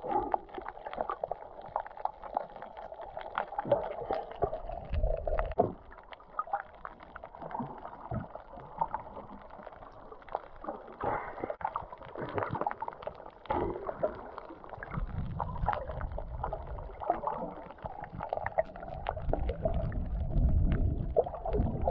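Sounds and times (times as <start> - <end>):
low rumble of moving water: 0.0 - 21.9
small crackles and clicks: 0.0 - 21.9
underwater water sloshing and gurgling: 0.0 - 21.9.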